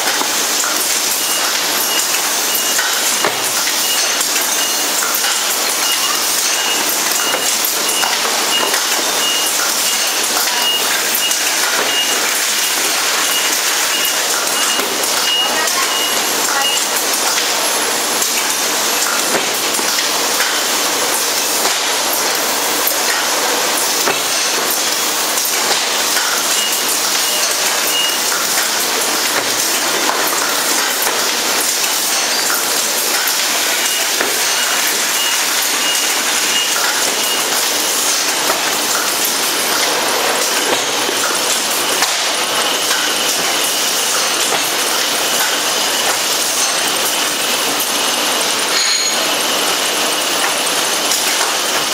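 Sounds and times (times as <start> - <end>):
production line machinery clatter: 0.0 - 51.9.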